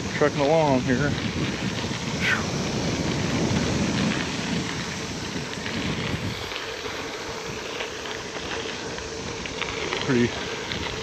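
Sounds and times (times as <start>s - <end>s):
cicada chorus drone: 0.0s - 11.0s
wind buffeting microphone: 0.0s - 11.0s.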